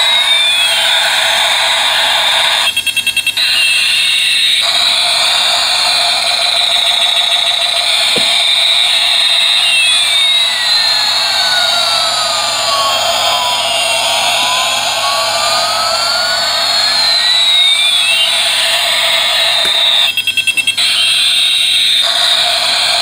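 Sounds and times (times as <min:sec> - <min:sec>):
electronic jet engine whine: 0:00.0 - 0:23.0
electronic beeps: 0:00.2 - 0:22.1.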